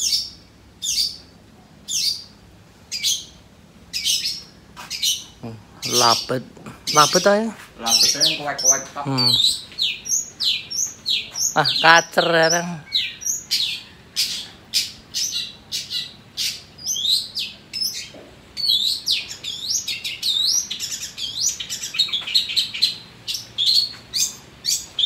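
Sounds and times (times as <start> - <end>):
bird singing varied chirps: 0.0 - 25.0.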